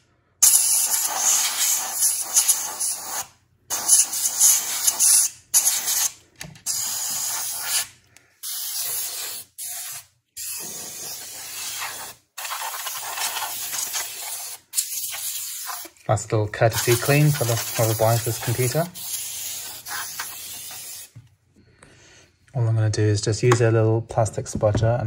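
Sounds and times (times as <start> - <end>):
compressed air spray hissing: 0.4 - 16.0, 16.7 - 21.2.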